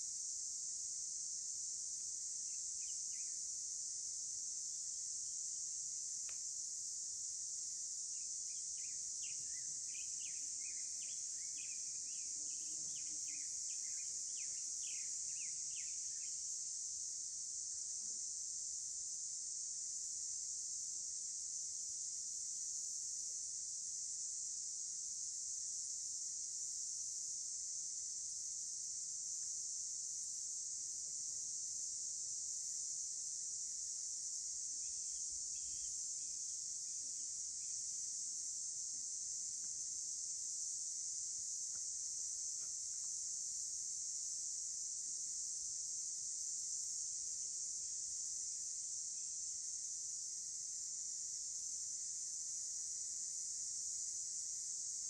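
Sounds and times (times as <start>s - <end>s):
high-pitched insect chorus: 0.1s - 55.0s.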